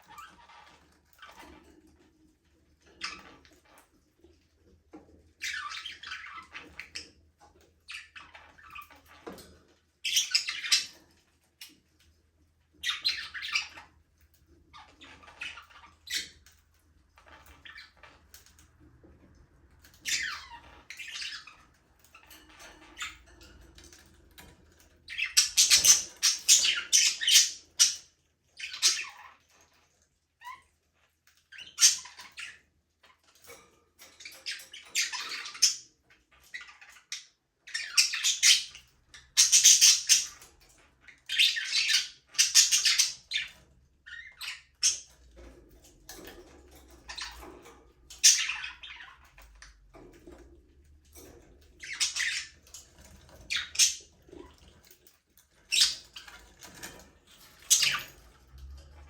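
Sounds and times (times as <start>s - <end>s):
budgerigars chirping and chattering: 2.8s - 3.9s, 5.0s - 18.7s, 19.8s - 30.7s, 31.4s - 59.0s.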